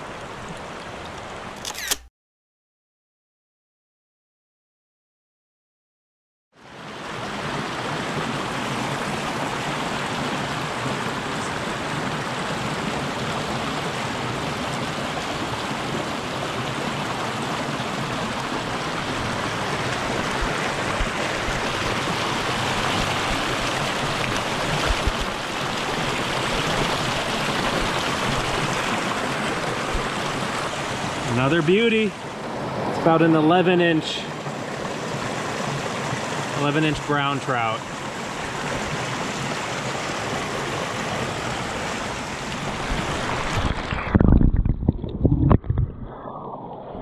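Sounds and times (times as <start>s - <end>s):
creek rushing over boulders: 6.6s - 45.9s.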